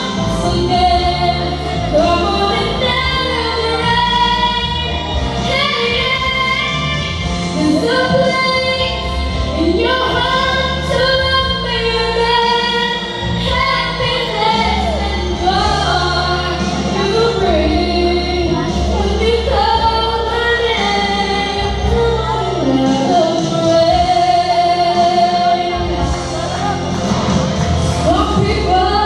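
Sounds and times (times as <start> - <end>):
woman singing slow song: 0.0 - 27.2, 27.9 - 29.0.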